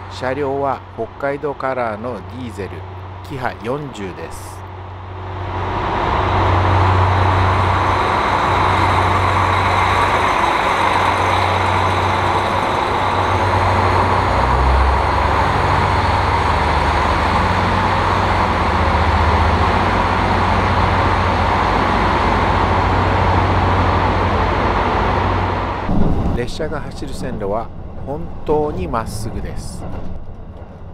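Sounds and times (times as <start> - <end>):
railcar diesel engine humming: 0.0 - 30.9.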